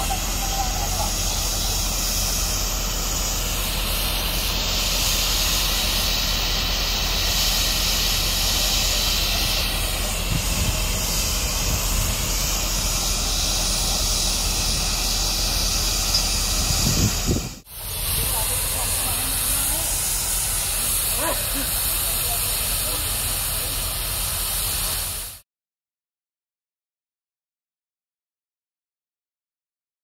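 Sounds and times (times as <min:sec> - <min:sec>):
steam hissing from locomotive: 0:00.0 - 0:25.4.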